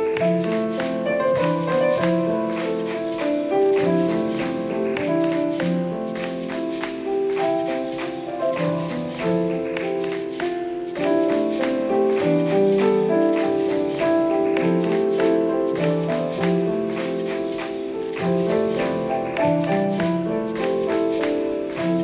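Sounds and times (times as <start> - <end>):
instrumental music with held chords: 0.0 - 22.0.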